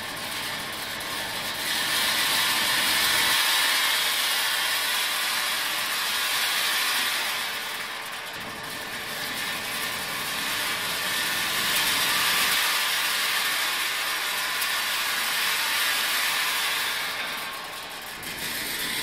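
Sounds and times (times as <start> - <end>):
seeds pouring onto metal chute: 0.0 - 19.0.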